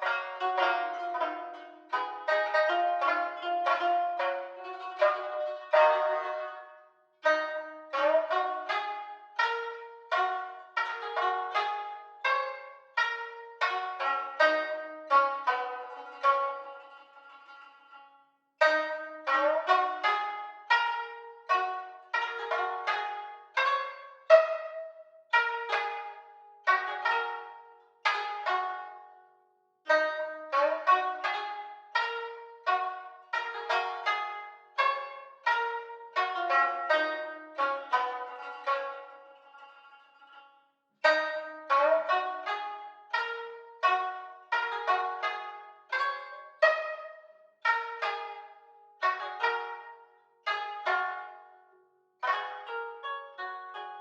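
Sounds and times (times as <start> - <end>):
koto playing: 0.0 - 29.2, 29.9 - 54.0
shamisen playing plucked melody: 0.0 - 29.3, 29.9 - 54.0.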